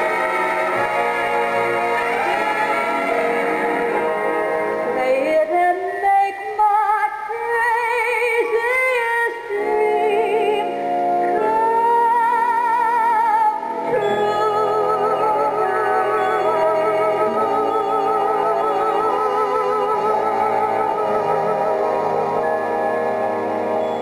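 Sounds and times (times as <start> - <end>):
person singing with vibrato: 0.0 - 22.4
instrumental backing music: 0.0 - 24.0.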